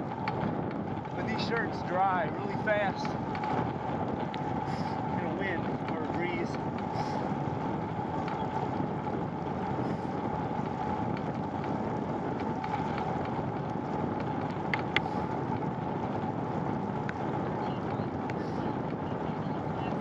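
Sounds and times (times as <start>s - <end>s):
road noise: 0.0s - 20.0s
rushing wind: 0.0s - 20.0s.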